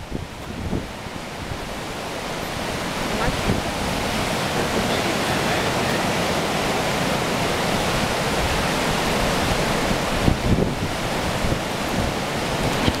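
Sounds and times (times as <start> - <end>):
floodwater rushing: 0.0 - 13.0
wind buffeting microphone: 0.0 - 13.0.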